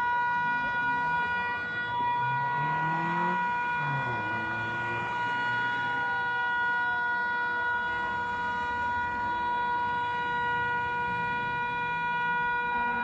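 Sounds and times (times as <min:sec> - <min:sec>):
steady horn-like tone: 0:00.0 - 0:13.0.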